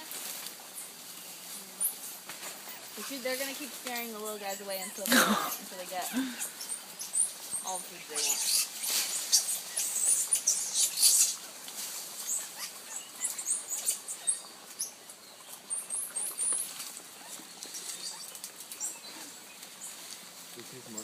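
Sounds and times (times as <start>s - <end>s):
monkeys squeaking and chirping: 1.5s - 20.1s.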